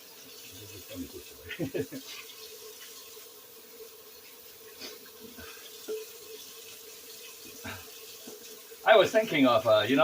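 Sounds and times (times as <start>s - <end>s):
kitchen tap running: 0.0s - 10.0s.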